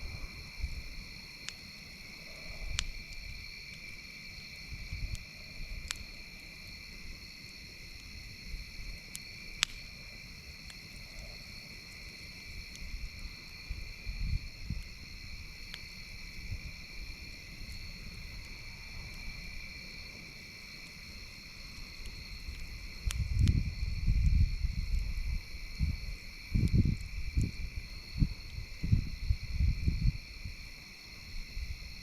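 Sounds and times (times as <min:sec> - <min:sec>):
campfire popping and crackling: 0:00.0 - 0:32.0
crickets chirping: 0:00.0 - 0:32.0.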